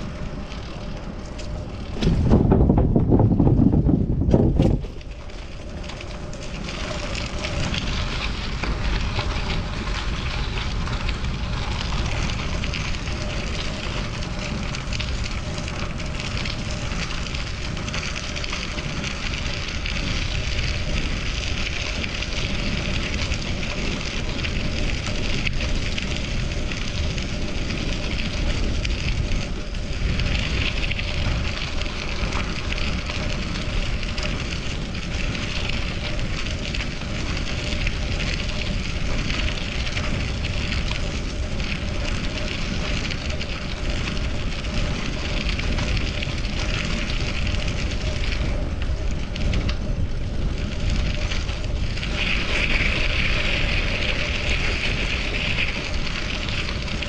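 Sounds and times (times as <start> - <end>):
bicycle tyres hissing on pavement: 0.0 - 2.2, 4.6 - 57.0
wind on microphone: 0.0 - 57.0.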